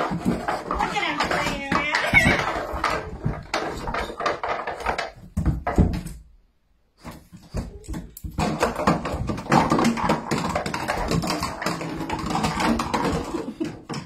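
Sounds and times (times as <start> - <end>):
claws scrabbling on bathtub: 0.0 - 6.0, 7.0 - 14.0
toys knocking against tub: 0.0 - 6.2, 7.6 - 14.0.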